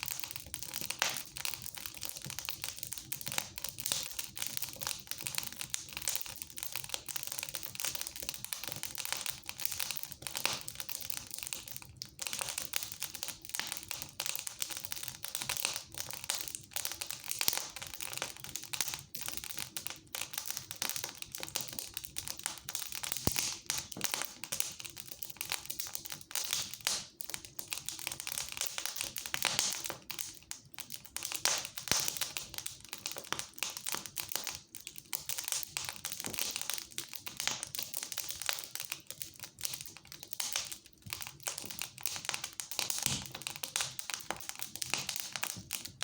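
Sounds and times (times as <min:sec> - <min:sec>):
fire crackling and popping: 0:00.0 - 0:46.0.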